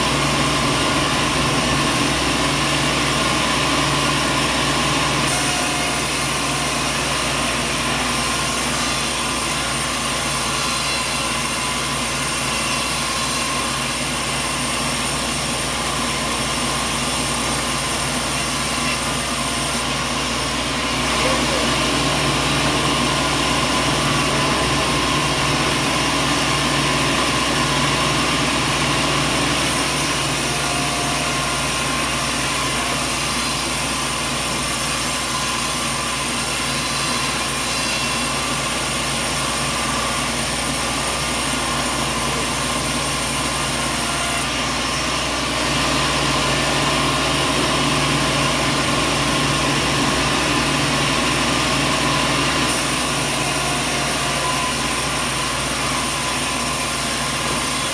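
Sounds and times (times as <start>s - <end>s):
sawmill machinery hum and whir: 0.0s - 57.9s.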